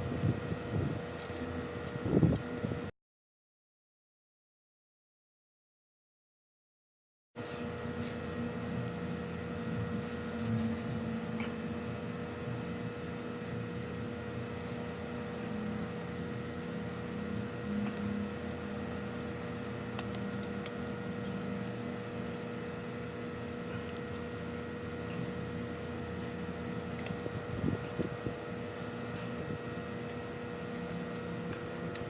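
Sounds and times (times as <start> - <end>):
steady mechanical hum: 0.0 - 2.9, 7.4 - 32.0.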